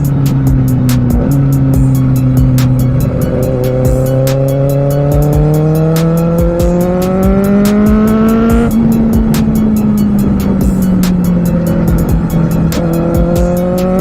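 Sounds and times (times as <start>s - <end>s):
motorcycle engine accelerating: 0.0s - 14.0s
ticking music beat: 0.0s - 14.0s.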